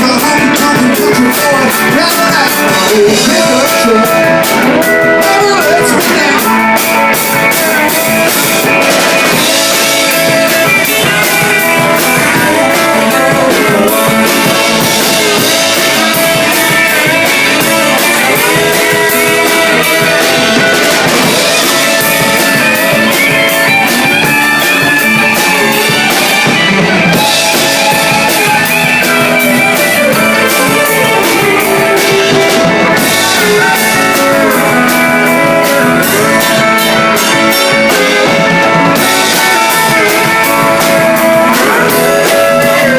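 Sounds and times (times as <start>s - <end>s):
bass guitar: 0.0s - 42.9s
electric guitar: 0.0s - 42.9s
pedal steel guitar: 0.0s - 42.9s.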